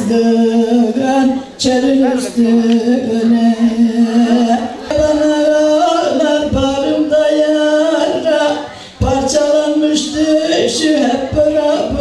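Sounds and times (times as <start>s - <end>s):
woman singing a lament: 0.0s - 12.0s.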